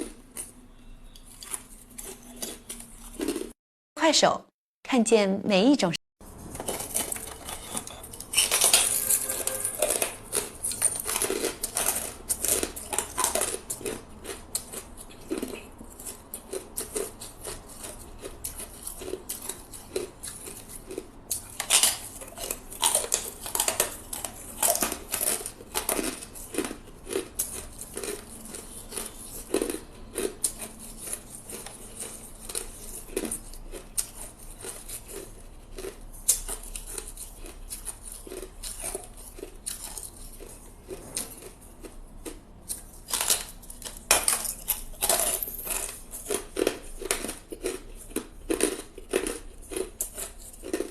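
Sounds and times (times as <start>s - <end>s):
ice being chewed crunching: 0.0s - 3.6s, 6.3s - 50.9s.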